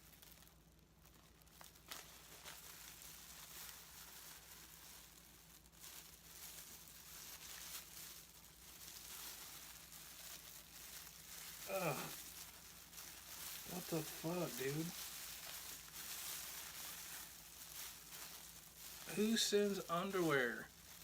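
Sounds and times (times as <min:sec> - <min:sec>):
package rustling and crinkling: 0:00.0 - 0:21.0.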